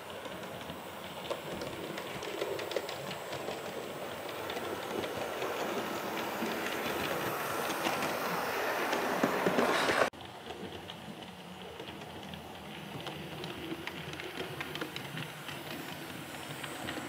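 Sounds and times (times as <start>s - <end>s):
model train rattling on track: 0.0s - 17.0s
wheels clicking over rail joints: 0.0s - 17.0s.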